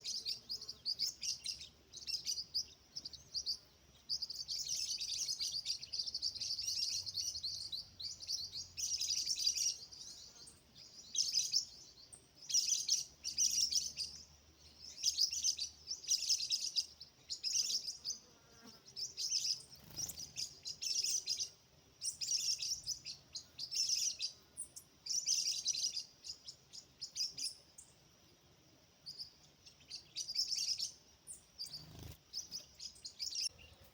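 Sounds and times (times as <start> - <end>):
sparrow chirping: 0.0 - 28.2, 28.9 - 33.9.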